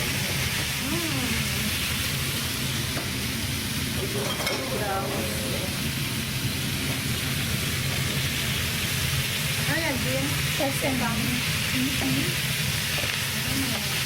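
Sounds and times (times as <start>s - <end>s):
food frying sizzle: 0.0s - 14.0s.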